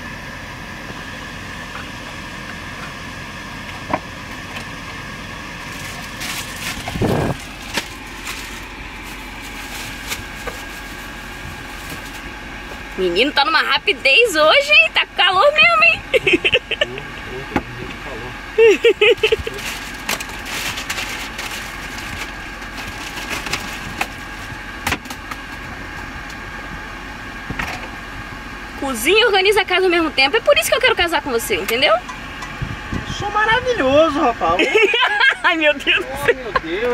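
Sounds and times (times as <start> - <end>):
boat engine drone: 0.0 - 36.9.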